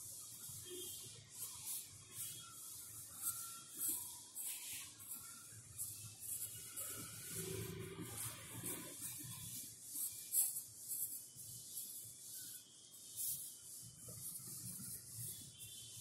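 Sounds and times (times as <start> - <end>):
pencil scratching on paper: 0.0 - 16.0.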